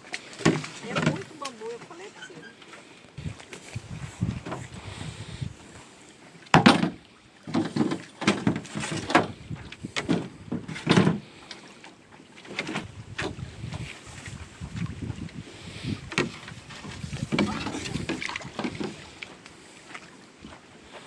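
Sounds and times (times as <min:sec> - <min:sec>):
oars splashing and knocking: 0:00.0 - 0:21.0.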